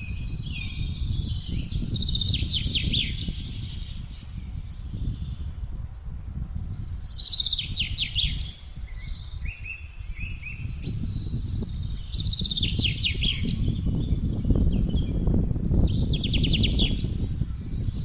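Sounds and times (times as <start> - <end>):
songbird singing trills: 0.0 - 18.0
wind blowing: 0.0 - 18.0.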